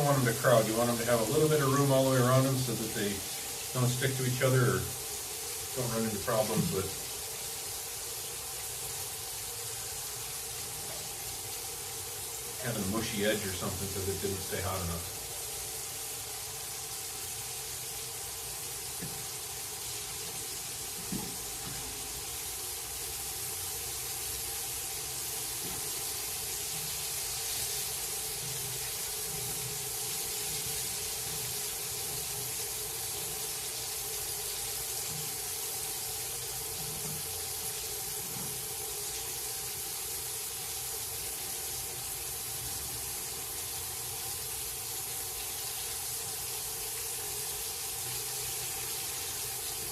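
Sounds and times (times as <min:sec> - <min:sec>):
fish frying in oil: 0:00.0 - 0:49.9.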